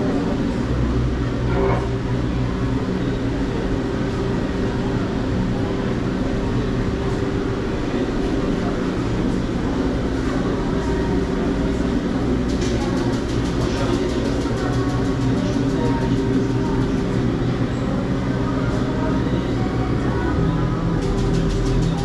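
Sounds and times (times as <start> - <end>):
mechanical hum: 0.0 - 22.0
murmur of voices: 0.0 - 22.0.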